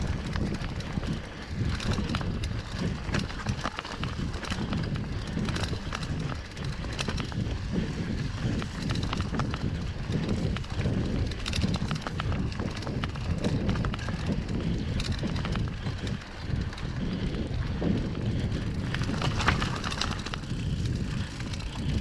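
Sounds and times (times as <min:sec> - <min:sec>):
bike clicking and rattling: 0:00.0 - 0:22.0
bike tyres rumbling on dirt: 0:00.0 - 0:22.0.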